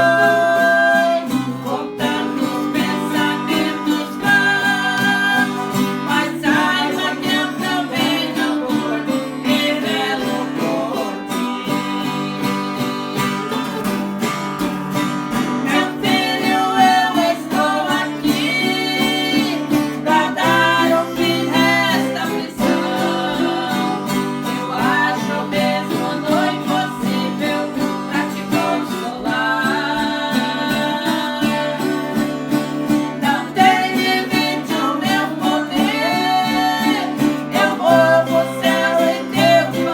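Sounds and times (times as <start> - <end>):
person singing praise song: 0.0 - 13.8, 15.4 - 39.9
acoustic guitar: 0.0 - 39.9.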